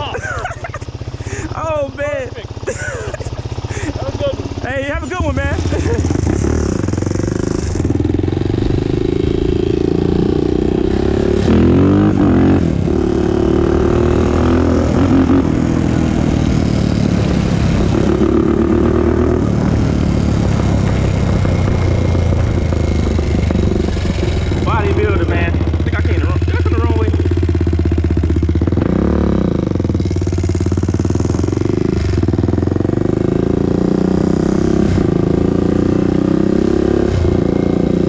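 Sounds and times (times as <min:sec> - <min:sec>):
quad engine running: 0:00.0 - 0:38.0.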